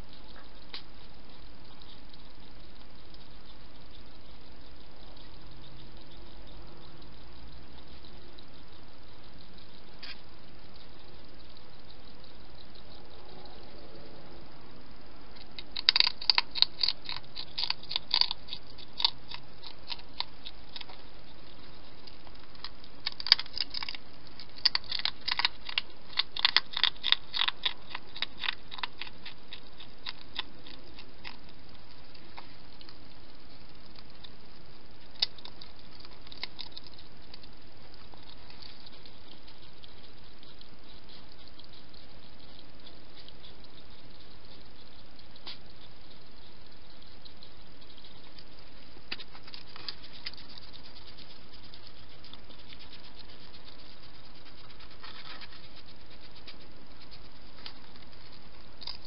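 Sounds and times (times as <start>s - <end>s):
hedgehog crunching dry food: 0.0s - 14.0s, 15.2s - 59.0s.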